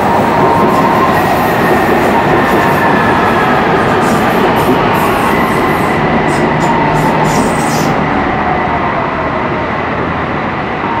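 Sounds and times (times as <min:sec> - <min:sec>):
electric train passing: 0:00.0 - 0:11.0
high-pitched train noise: 0:00.0 - 0:11.0
steady train rumble: 0:00.0 - 0:11.0.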